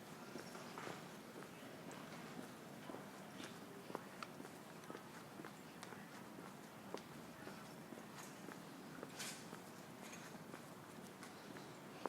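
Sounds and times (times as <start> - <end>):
footsteps on sidewalk: 0.0 - 12.0
street background noise: 0.0 - 12.0.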